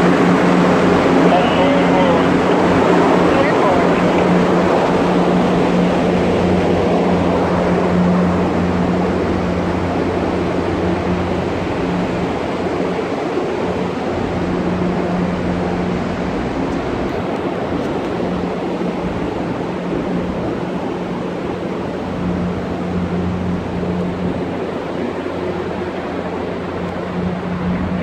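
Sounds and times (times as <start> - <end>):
ship machinery humming: 0.0 - 28.0.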